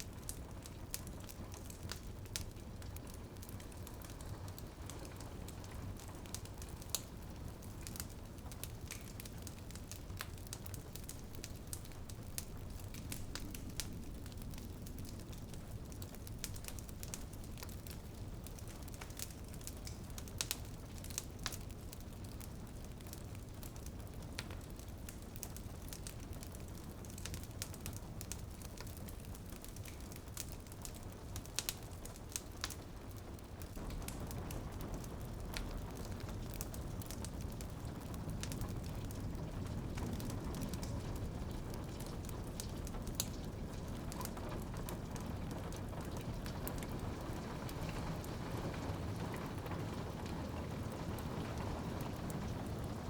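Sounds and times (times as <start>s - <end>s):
rain on a window: 0.0s - 53.0s
wood fire crackling: 0.0s - 53.0s.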